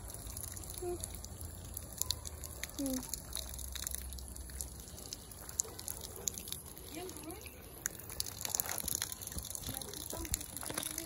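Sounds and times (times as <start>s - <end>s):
water dripping: 0.0s - 11.0s
water stream splashing on plants: 0.0s - 11.0s.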